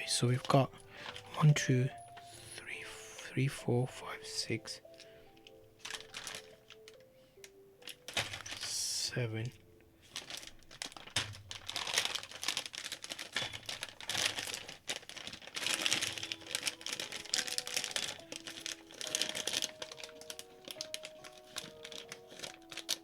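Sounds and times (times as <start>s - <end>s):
plastic bag crinkling: 0.0s - 3.3s, 4.0s - 23.0s.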